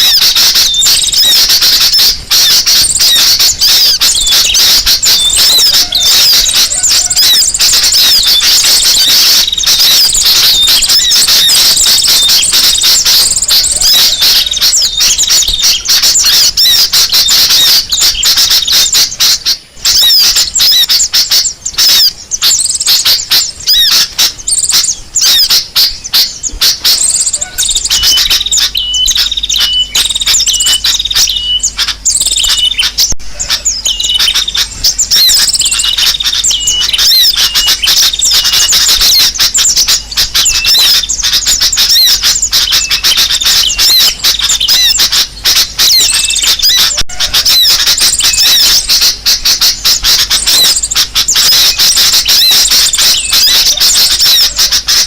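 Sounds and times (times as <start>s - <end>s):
short repeated bird call: 0.0s - 55.0s
small birds chirping and trilling: 0.0s - 55.0s.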